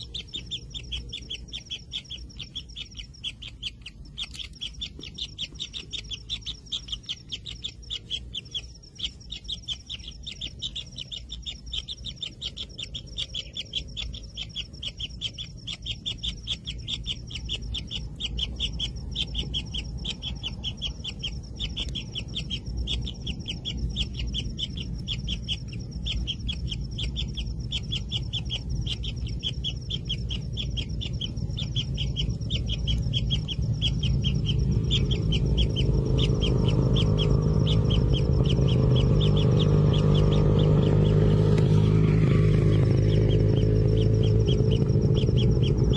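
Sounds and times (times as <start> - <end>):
low rumble: 0.0 - 45.9
nestlings begging calls: 0.0 - 45.9.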